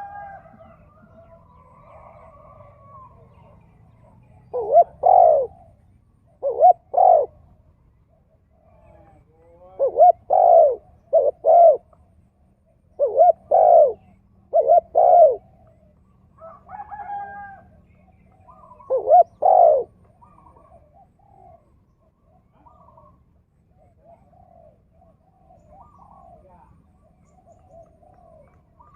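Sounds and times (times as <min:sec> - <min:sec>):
dove cooing: 0:00.0 - 0:07.6, 0:08.2 - 0:12.0, 0:12.9 - 0:28.9.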